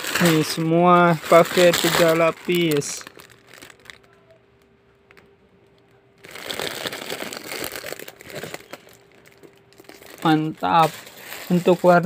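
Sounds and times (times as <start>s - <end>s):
faint steady hum: 0.0s - 12.0s
plastic packaging crinkling: 0.0s - 12.0s.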